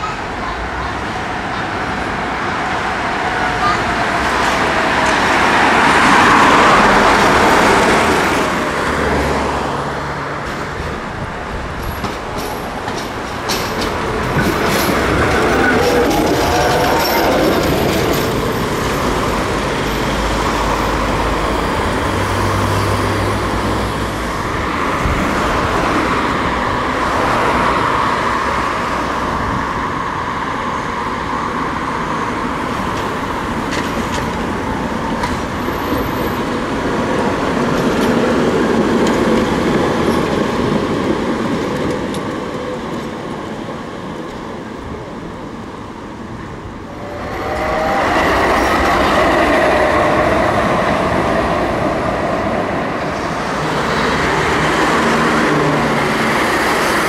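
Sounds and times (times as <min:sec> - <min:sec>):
street traffic: 0:00.0 - 0:57.0
tram rolling on rails: 0:00.0 - 0:57.0
tram wheels rumbling with whine: 0:00.0 - 0:57.0.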